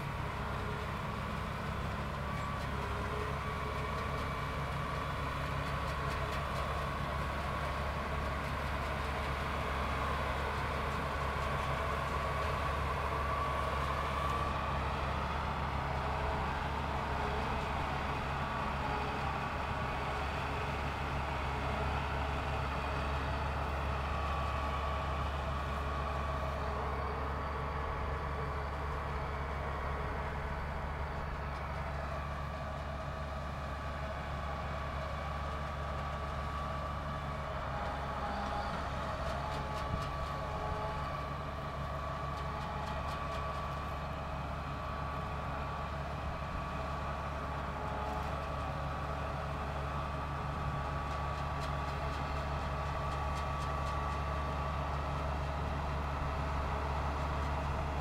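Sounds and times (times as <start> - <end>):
harvester engine drone: 0.0 - 58.0.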